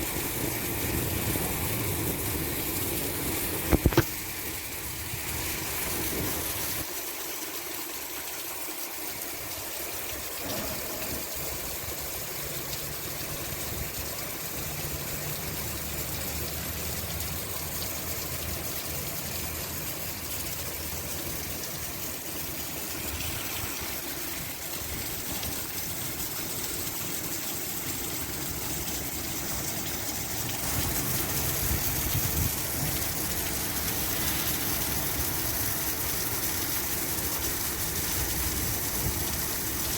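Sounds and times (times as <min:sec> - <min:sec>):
heavy rain: 0:00.0 - 0:39.9
running rainwater: 0:00.0 - 0:39.9.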